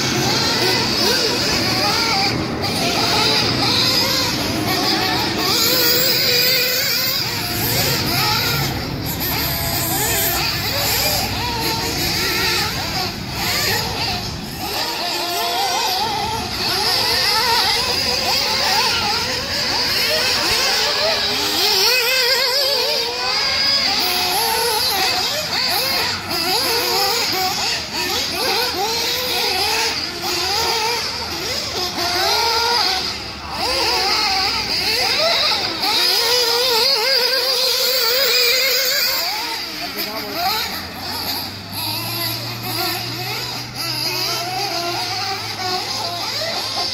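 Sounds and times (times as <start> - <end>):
nitro engine revving: 0.0 - 46.9.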